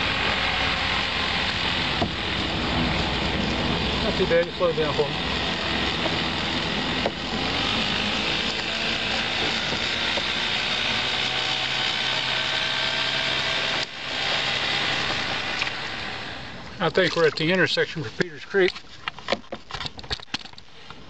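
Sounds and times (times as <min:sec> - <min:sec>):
boat motor running at low speed: 0:00.0 - 0:18.3.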